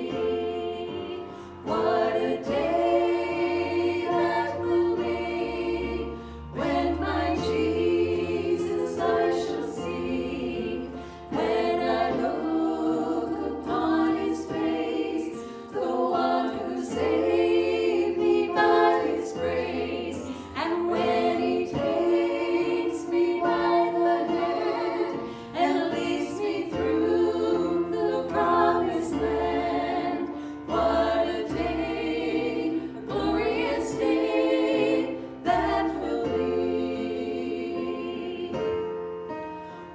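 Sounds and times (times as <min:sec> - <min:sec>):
group singing in harmony: 0:00.0 - 0:39.9.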